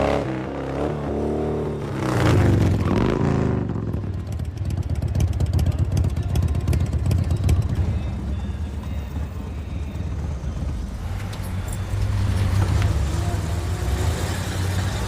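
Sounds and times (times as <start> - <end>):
vehicle engine revving and idling: 0.0 - 15.0.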